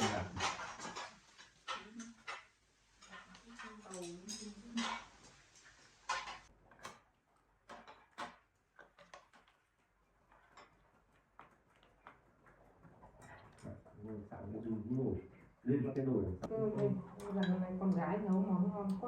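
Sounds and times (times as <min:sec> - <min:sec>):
chopsticks and spoons tapping bowls: 0:00.0 - 0:15.6, 0:16.4 - 0:19.0.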